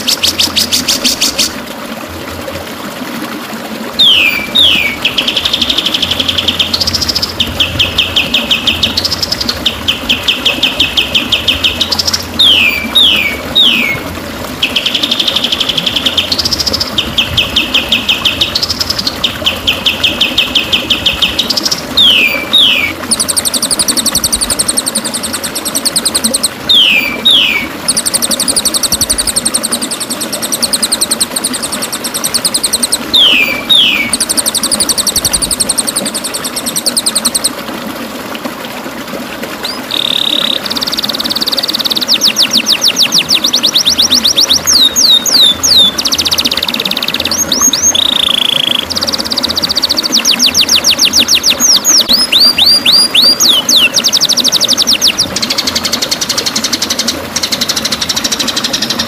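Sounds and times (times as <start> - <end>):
rapid buzzy bird trills: 0.0 - 1.6, 4.0 - 37.6, 39.6 - 59.0.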